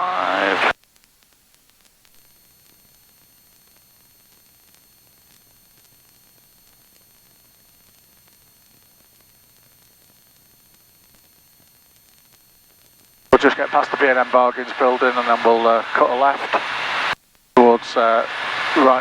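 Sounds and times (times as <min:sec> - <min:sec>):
faint static hiss: 0:00.0 - 0:19.0.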